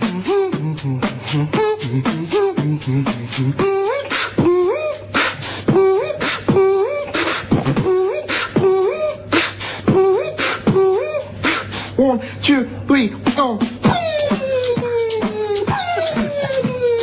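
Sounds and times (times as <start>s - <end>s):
man beatboxing: 0.0s - 17.0s.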